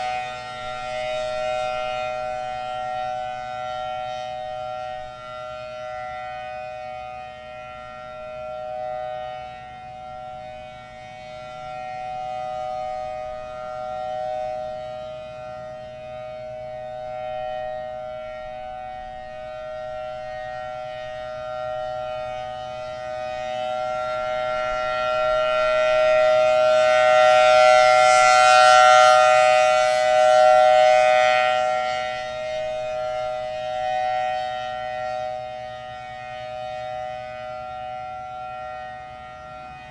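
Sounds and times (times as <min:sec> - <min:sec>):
warning siren two-tone chord: 0:00.0 - 0:39.9.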